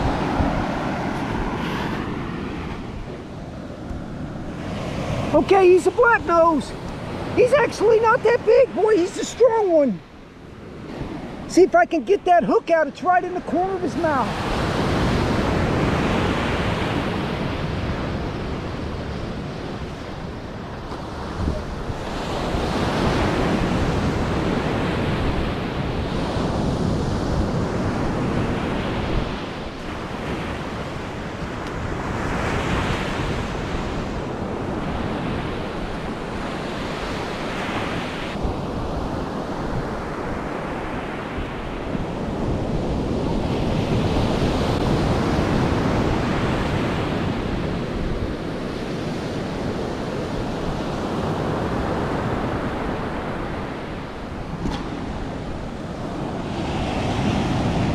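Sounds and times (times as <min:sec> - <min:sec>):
ocean surf breaking: 0:00.0 - 0:57.9
wind buffeting microphone: 0:00.0 - 0:57.9.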